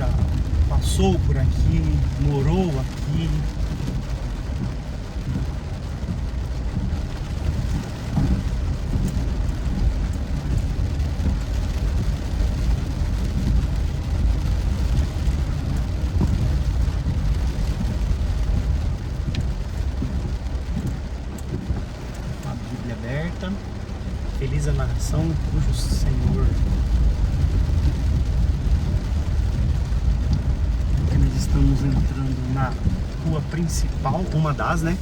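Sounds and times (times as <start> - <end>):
car engine and tyre noise: 0.0 - 35.0.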